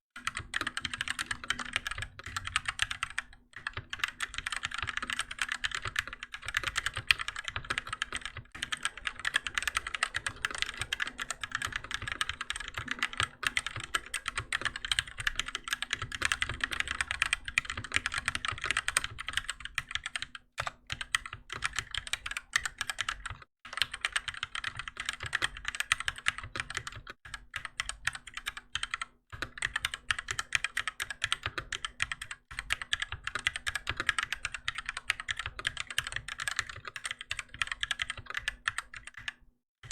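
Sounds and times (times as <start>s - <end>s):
fast mechanical keyboard typing: 0.2s - 39.9s.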